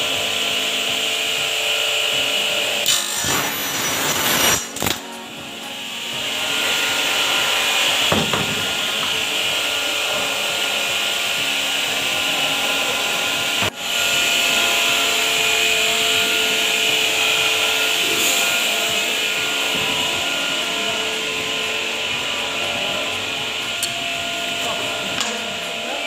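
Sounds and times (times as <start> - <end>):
electric workshop machine whirring: 0.0 - 26.0.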